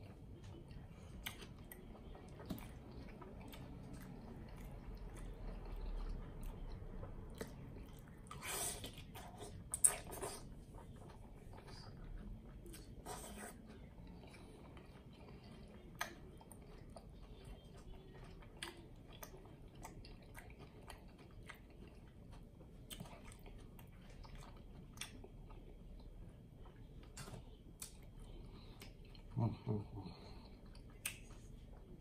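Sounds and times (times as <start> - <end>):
faint chewing: 0.0 - 32.0.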